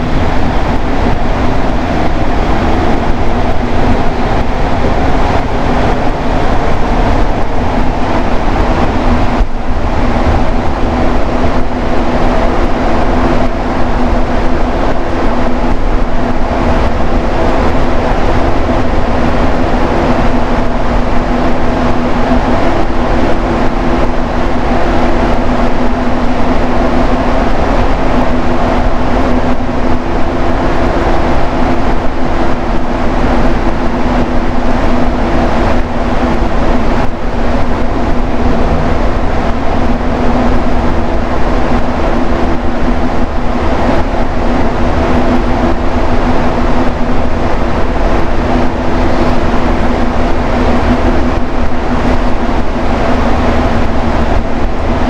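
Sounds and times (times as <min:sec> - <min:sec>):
metro train rolling noise: 0:00.0 - 0:55.0
multi-tone hum: 0:00.0 - 0:55.0.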